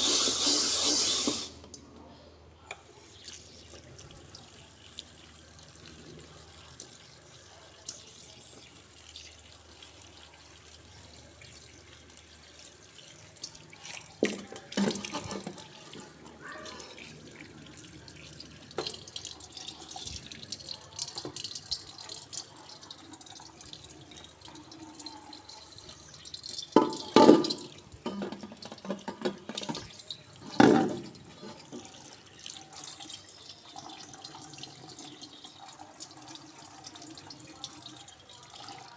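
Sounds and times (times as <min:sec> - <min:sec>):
water running into sink: 0:00.0 - 0:01.8, 0:03.0 - 0:38.9.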